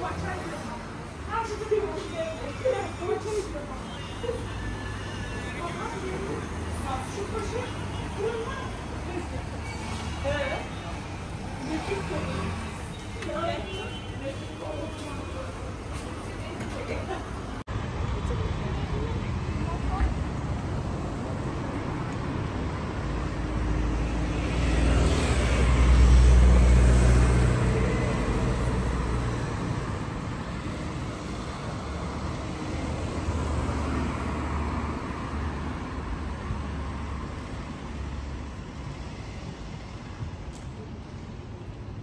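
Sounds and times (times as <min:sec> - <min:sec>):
city street traffic: 0:00.0 - 0:42.0.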